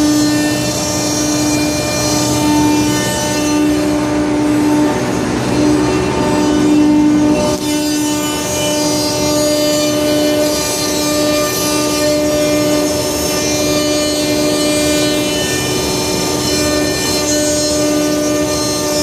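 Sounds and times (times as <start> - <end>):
end mill cutting wood: 0.0 - 19.0
router spindle whine: 0.0 - 19.0.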